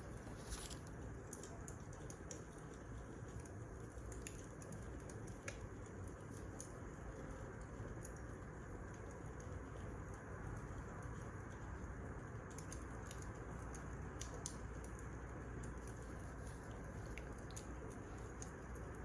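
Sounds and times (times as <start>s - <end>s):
fire crackling and popping: 0.0s - 19.0s
wood fire burning: 0.0s - 19.0s.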